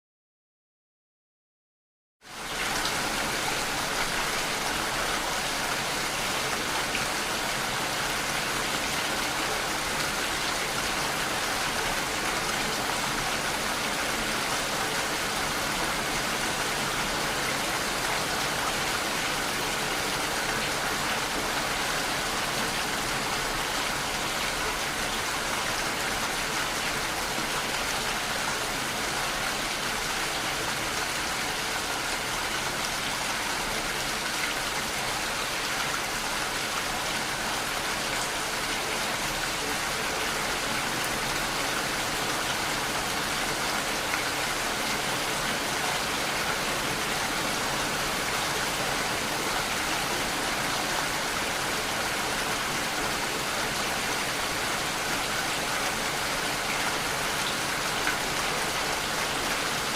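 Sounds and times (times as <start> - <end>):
steady rainfall: 2.2 - 59.9.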